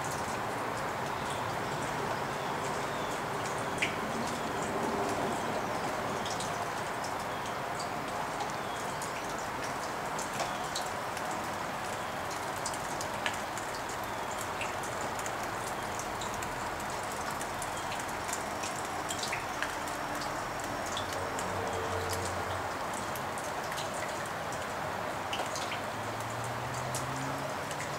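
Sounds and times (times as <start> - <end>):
raindrops ticking on surfaces: 0.0 - 27.9
steady rain: 0.0 - 27.9.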